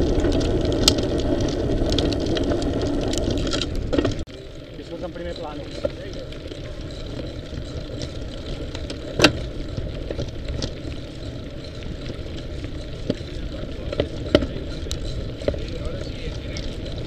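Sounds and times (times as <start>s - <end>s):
bike knocking over stones: 0.0s - 17.0s
bike tyres and wind rumble: 0.0s - 17.0s.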